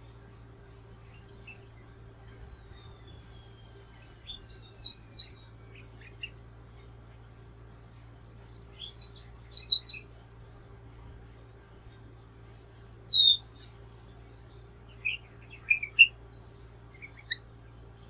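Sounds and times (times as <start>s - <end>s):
faint low hum: 0.0s - 18.0s
songbirds chirping: 0.0s - 18.0s.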